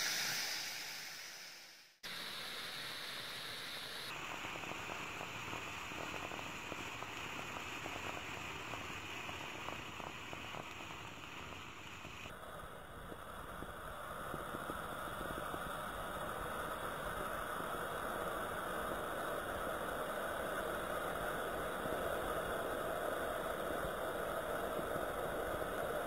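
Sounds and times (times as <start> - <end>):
tea sizzling and frothing: 0.0 - 26.0.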